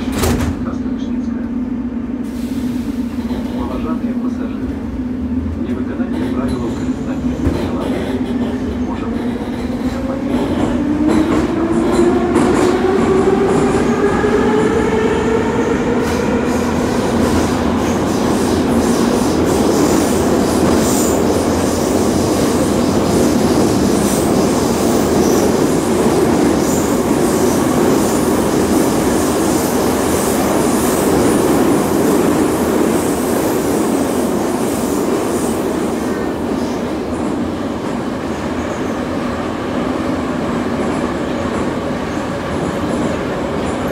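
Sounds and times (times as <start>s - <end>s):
train wheels rumbling: 0.0s - 43.9s.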